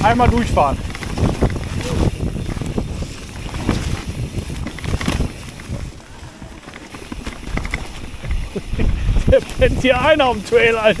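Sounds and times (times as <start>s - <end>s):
bike knocks and rattles: 0.0s - 11.0s
bike tyres rolling over leaves and mud: 0.0s - 11.0s
wind buffeting microphone: 0.0s - 11.0s.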